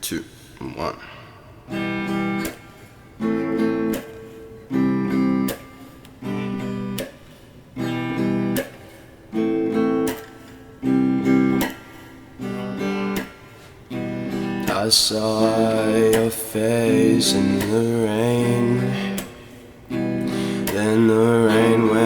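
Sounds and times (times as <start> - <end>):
acoustic guitar strumming chords: 1.5 - 22.0.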